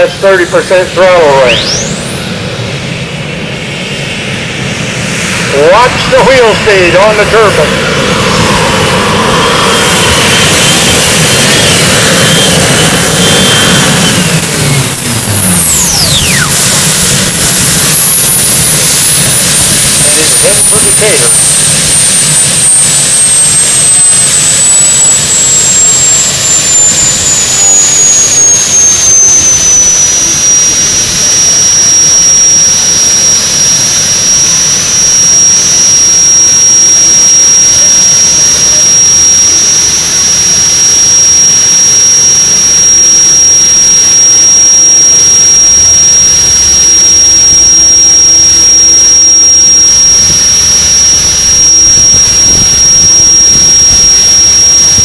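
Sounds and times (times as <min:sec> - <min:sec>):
gas turbine engine whine: 0:00.0 - 0:55.0.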